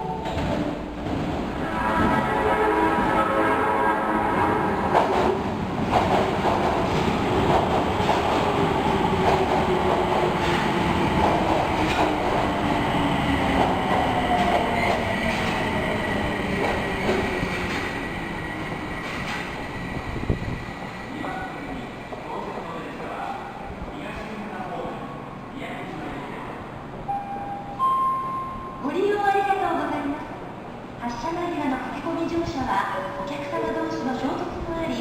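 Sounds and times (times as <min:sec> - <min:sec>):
rail noise: 0:00.0 - 0:35.0.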